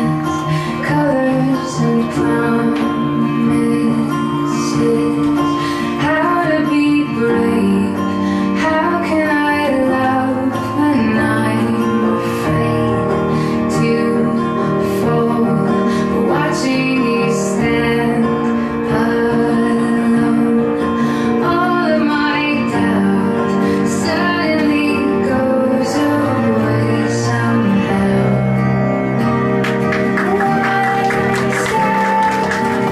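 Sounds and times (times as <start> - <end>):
woman singing: 0.0 - 29.2, 30.0 - 32.9
guitar: 0.0 - 32.9.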